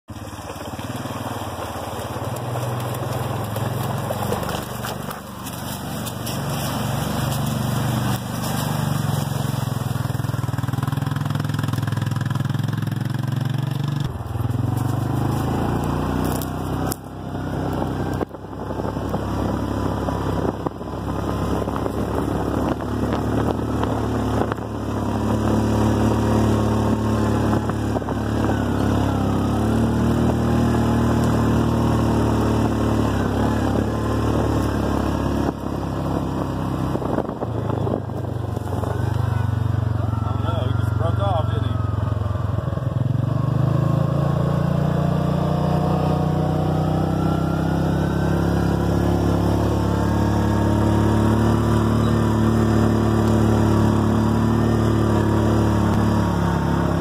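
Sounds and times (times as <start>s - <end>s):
utility vehicle engine running: 0.0s - 57.0s.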